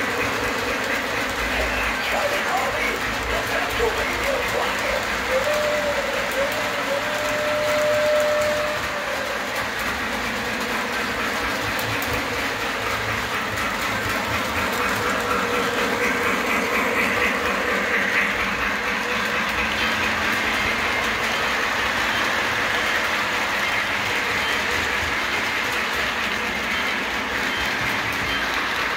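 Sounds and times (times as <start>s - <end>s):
model train rolling on track: 0.0s - 28.9s.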